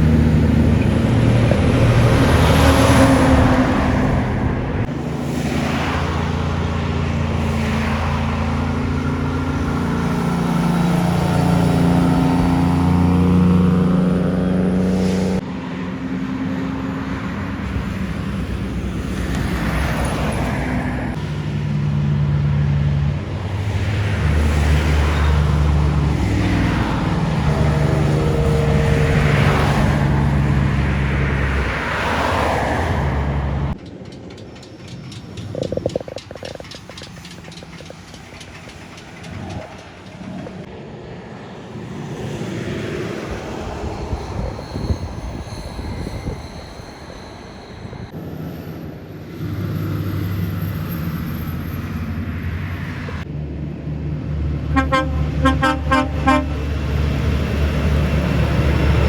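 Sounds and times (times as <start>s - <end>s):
heavy trucks passing: 0.0s - 59.0s.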